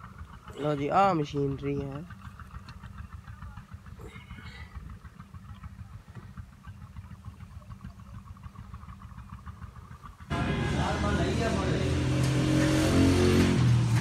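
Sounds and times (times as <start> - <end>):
engine idling with ticking: 0.0 - 12.4.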